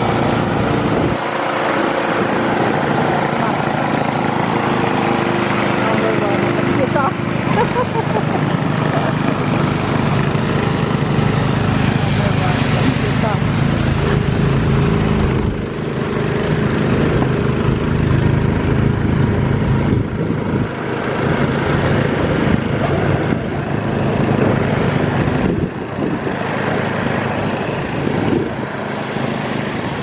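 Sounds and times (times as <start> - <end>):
snowblower engine running: 0.0 - 30.0.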